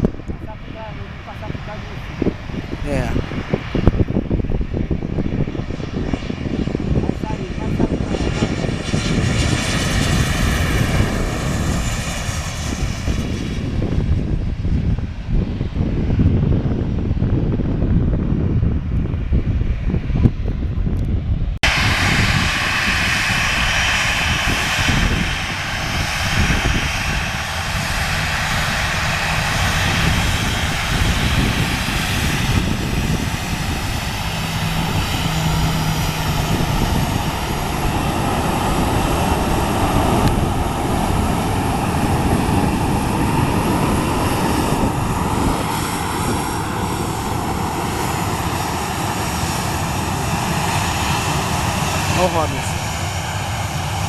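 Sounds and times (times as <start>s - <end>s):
jet engines roaring: 0.0s - 54.0s
wavering engine whine: 0.0s - 54.0s.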